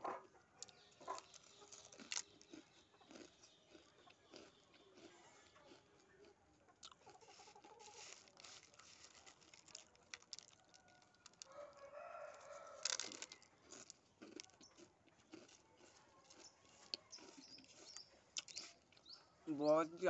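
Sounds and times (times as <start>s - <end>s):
fingers picking chips off plate: 0.6s - 5.8s, 6.8s - 19.1s
chewing potato chips: 0.6s - 19.2s.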